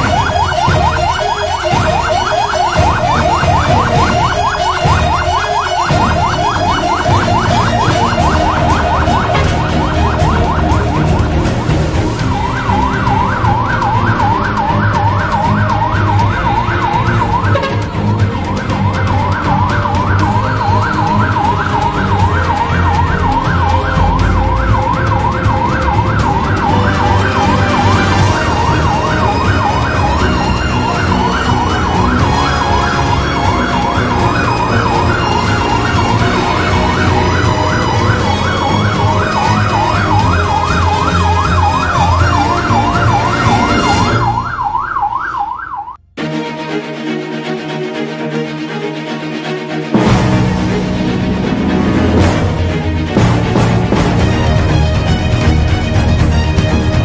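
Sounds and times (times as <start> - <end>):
fire truck siren yelping: 0.0 - 46.2.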